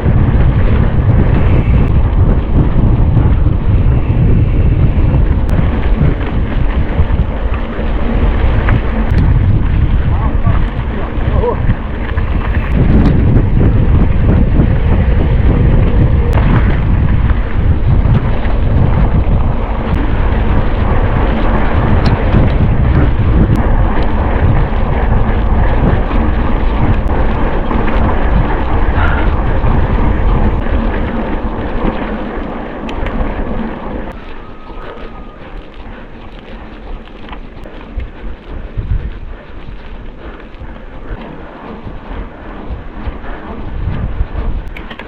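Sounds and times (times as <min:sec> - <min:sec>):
wind buffeting microphone: 0:00.0 - 0:45.0
bike knocks and rattles: 0:04.9 - 0:34.2, 0:35.6 - 0:45.0.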